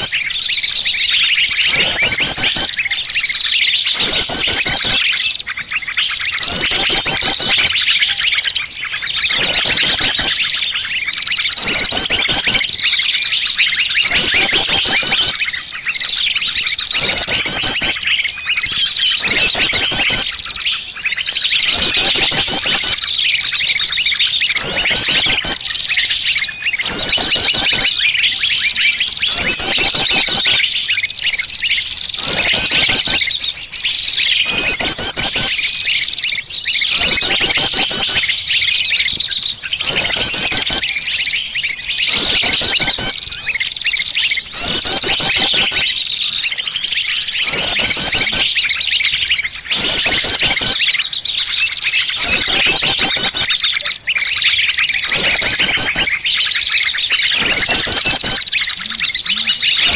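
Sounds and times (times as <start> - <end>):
small songbirds chirping: 0.0 - 59.9.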